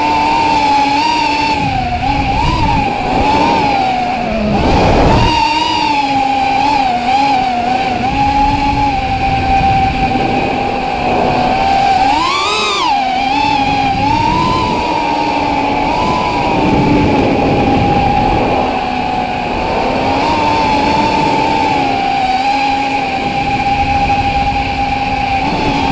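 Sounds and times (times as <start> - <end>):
quadcopter motors whining: 0.0 - 25.9
wind noise rush: 0.0 - 25.9.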